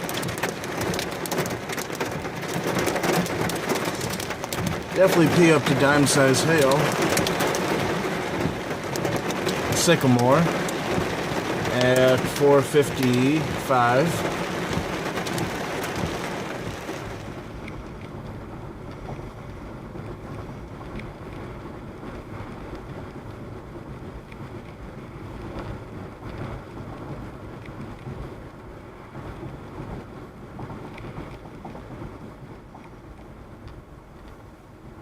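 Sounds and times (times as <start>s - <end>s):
rain and hail hitting a car: 0.0s - 35.0s.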